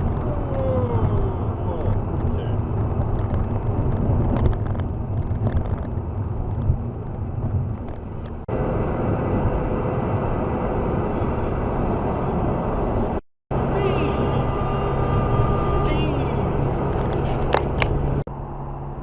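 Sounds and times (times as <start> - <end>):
vehicle road and engine rumble: 0.0 - 19.0.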